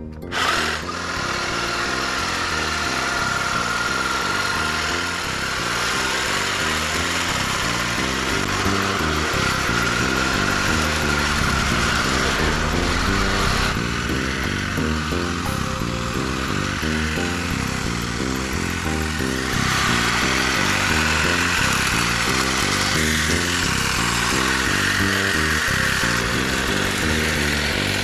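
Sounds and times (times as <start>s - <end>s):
hedge trimmer cutting: 0.0s - 28.0s.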